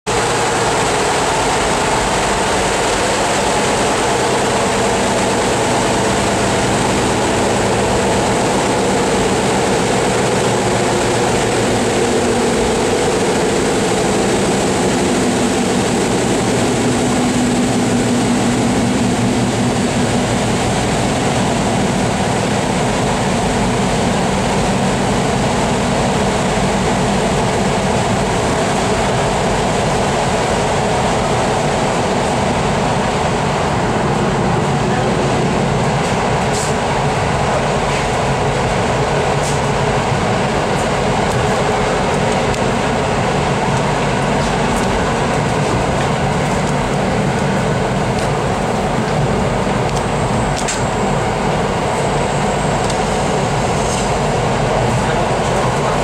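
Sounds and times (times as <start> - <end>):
train running at speed: 0.1 - 56.0.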